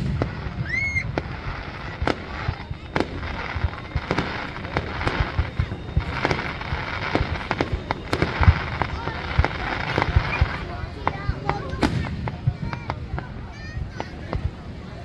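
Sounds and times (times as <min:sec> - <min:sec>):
rising firework whistle: 0:00.0 - 0:14.9
fireworks cracks and bangs: 0:00.0 - 0:15.0.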